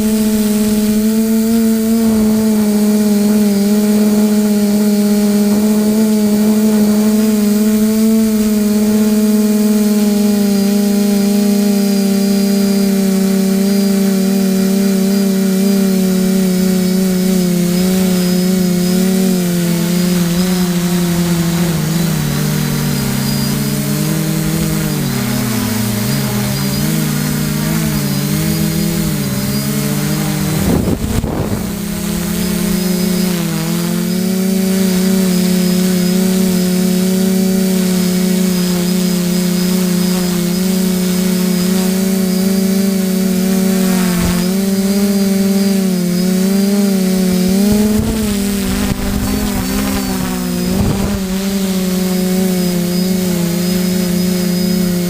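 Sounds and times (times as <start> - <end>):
engine running: 0.0 - 55.0
motor hum: 0.0 - 55.0.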